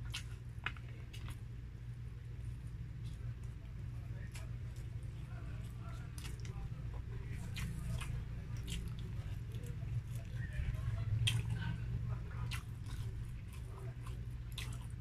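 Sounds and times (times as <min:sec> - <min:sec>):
person chewing: 0:00.0 - 0:01.5, 0:02.4 - 0:15.0.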